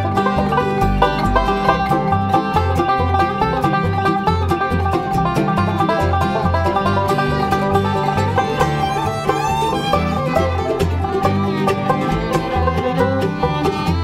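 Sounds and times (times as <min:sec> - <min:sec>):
fiddle: 0:00.0 - 0:14.0
mandolin: 0:00.0 - 0:14.0
picked banjo: 0:00.0 - 0:14.0
strummed acoustic guitar: 0:00.0 - 0:14.0
walking upright bass: 0:00.0 - 0:14.0.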